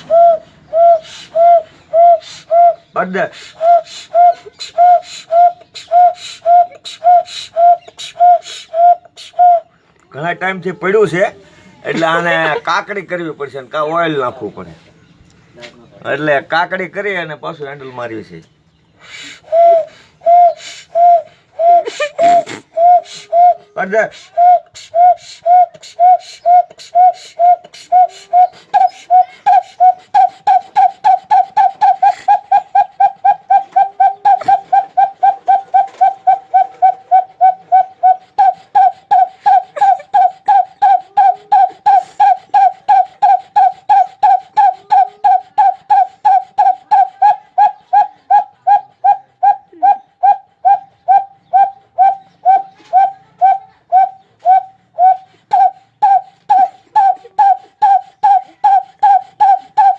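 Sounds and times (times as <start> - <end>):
man imitating engine with mouth: 0.0 - 9.7, 19.2 - 59.9.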